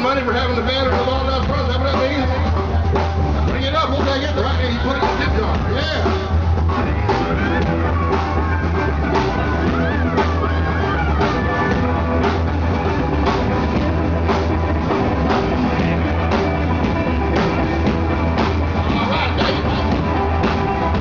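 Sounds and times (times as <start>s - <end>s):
bass line: 0.0s - 21.0s
pitch-bending lead line: 0.0s - 21.0s.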